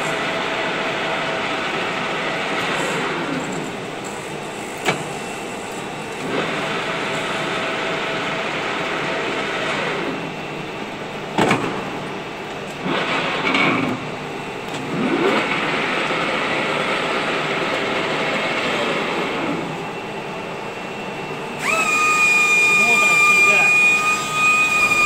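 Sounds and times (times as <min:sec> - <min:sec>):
lathe spindle whine: 0:00.0 - 0:11.3, 0:11.9 - 0:25.0.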